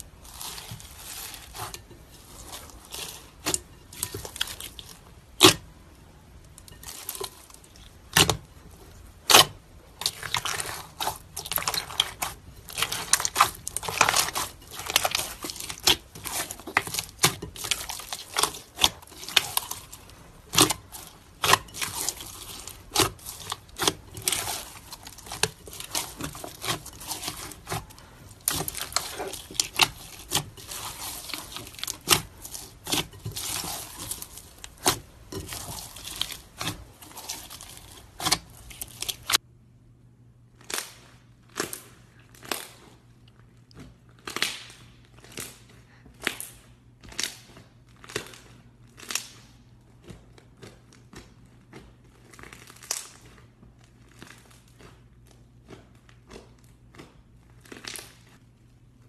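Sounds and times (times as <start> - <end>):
slime squishing with crackles: 0.0 - 39.4, 40.3 - 59.0.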